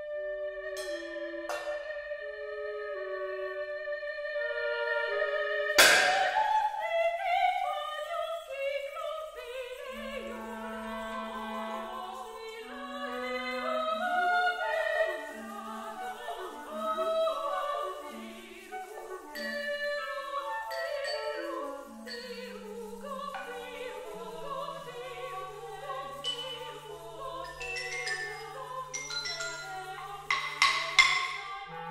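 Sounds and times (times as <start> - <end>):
clarinet: 0.0 - 31.9.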